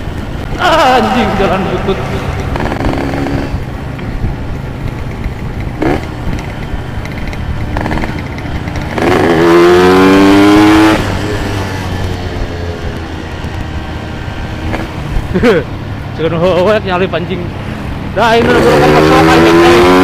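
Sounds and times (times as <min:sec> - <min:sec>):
motorcycle engine drone: 0:00.0 - 0:16.6.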